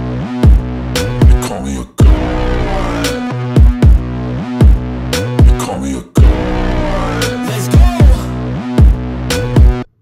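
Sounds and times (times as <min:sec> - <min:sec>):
dubstep music with sliding bass: 0:00.0 - 0:09.9.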